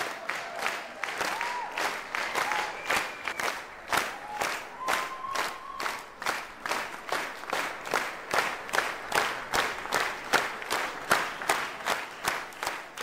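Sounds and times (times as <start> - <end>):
audience clapping in unison: 0.0 - 13.0.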